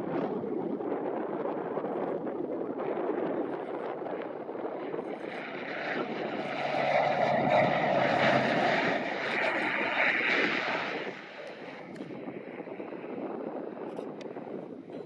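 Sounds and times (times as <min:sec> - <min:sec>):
turboprop engine and propeller: 0:00.0 - 0:15.0.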